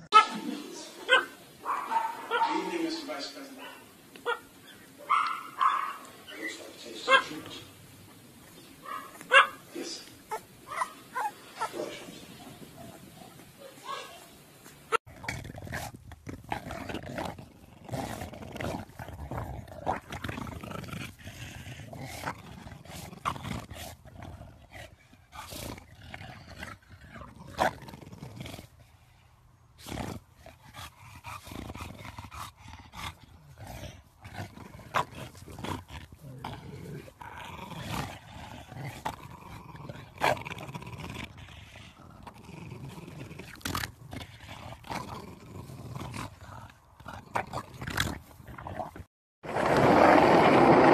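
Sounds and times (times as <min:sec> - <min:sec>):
dogs growling: 0:00.0 - 0:14.0, 0:14.6 - 0:29.2, 0:29.8 - 0:50.9.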